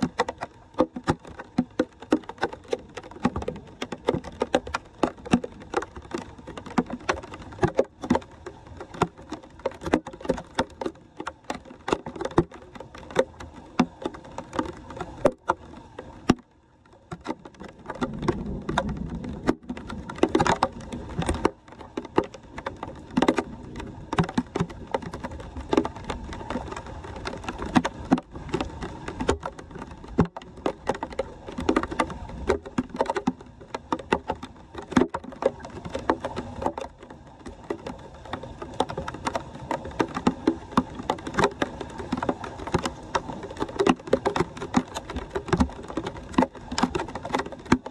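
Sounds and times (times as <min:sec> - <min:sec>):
debris taps and splashes: 0:00.0 - 0:47.9
rain on flowing water: 0:00.0 - 0:47.9.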